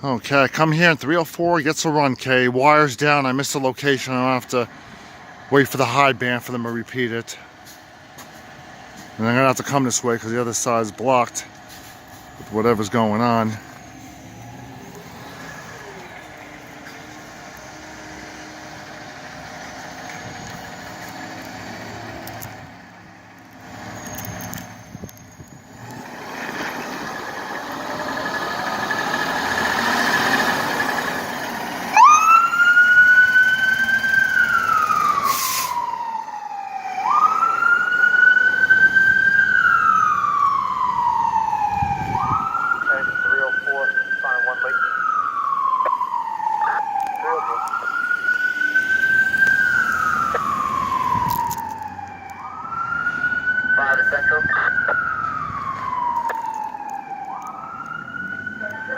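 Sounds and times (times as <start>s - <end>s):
fire engine pulling out: 0.0s - 58.9s
wailing siren: 8.8s - 22.7s, 23.8s - 58.9s.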